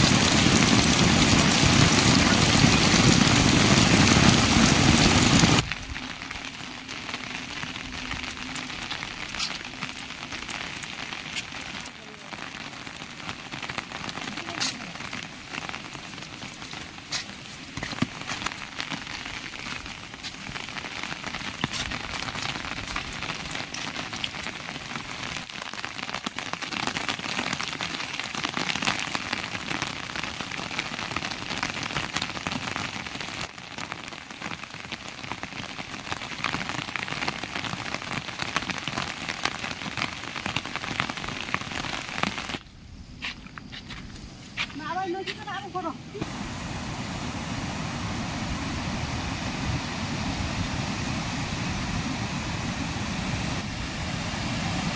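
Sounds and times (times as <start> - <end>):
heavy rain falling: 0.0 - 42.6, 44.7 - 54.9.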